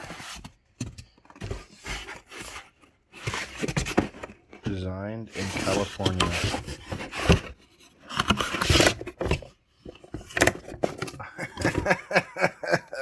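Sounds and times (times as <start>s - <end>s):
packaging scraping and rustling: 0.0s - 12.0s.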